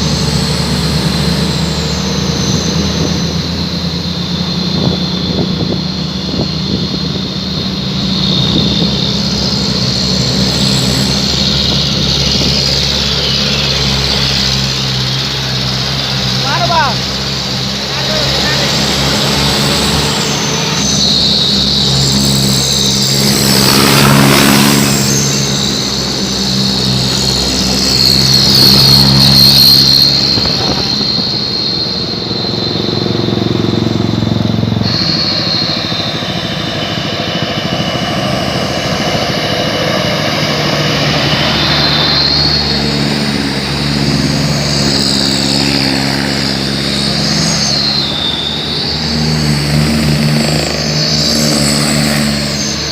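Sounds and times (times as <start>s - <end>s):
truck engines deep exhaust note: 0.0s - 52.9s.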